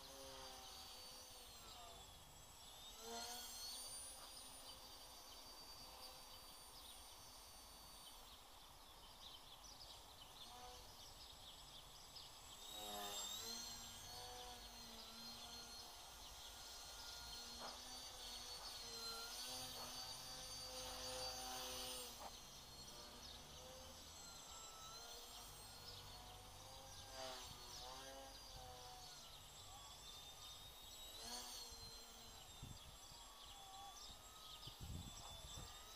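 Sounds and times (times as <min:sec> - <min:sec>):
quadcopter motors whining: 0:00.0 - 0:35.9.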